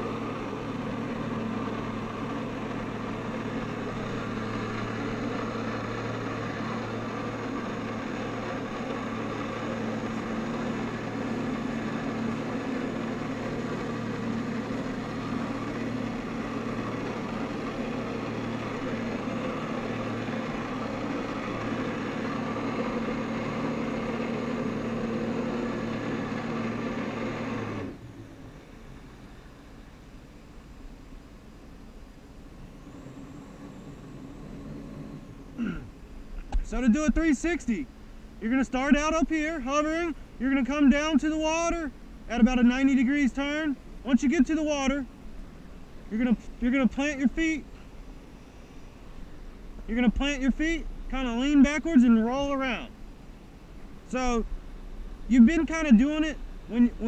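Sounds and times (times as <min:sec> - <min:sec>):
watercraft engine running: 0:00.0 - 0:57.0.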